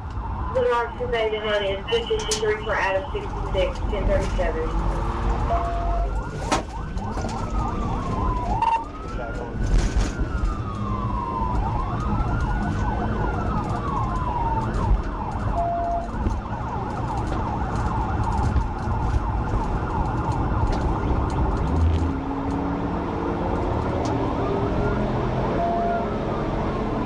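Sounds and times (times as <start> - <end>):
engine and road noise: 0.0 - 27.0
police siren wailing and yelping: 0.1 - 22.7, 23.6 - 27.0.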